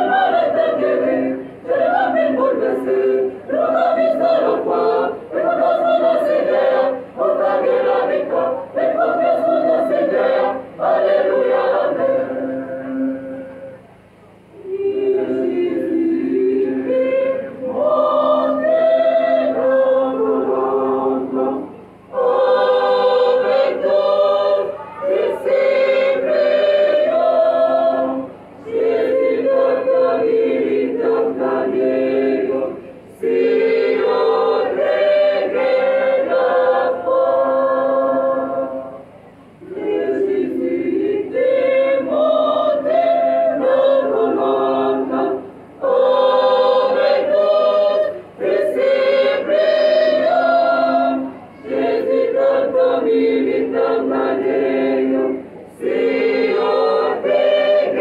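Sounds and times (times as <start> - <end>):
choir of women singing: 0.0 - 13.9, 14.5 - 58.0.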